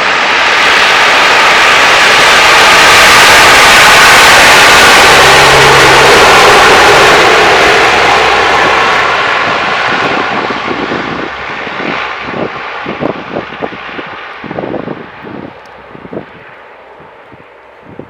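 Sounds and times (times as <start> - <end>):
turboprop aircraft passing: 0.0 - 18.0.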